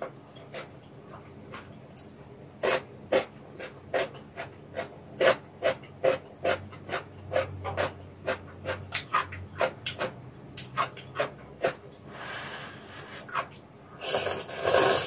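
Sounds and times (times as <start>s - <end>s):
person chewing noodles: 0.4s - 12.5s, 14.0s - 15.0s.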